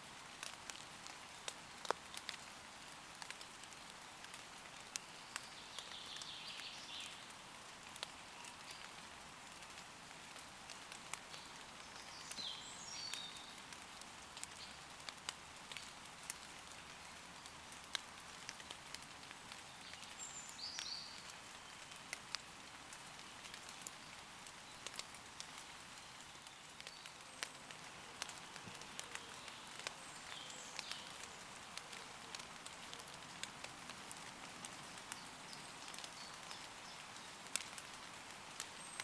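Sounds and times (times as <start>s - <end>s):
rain on leaves: 0.0s - 39.0s
water drips: 3.2s - 39.0s.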